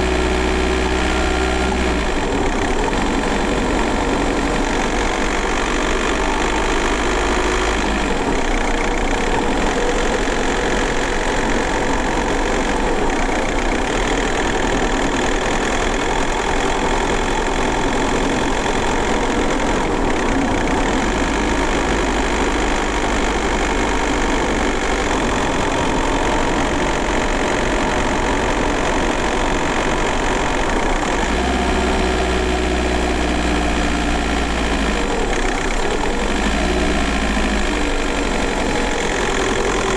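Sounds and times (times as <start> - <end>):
diesel car engine running: 0.0 - 39.9.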